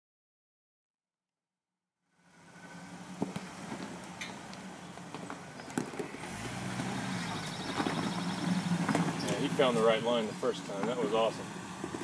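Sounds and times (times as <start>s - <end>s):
deeper engine note: 2.1s - 12.0s
engine running at low speed: 2.1s - 12.0s.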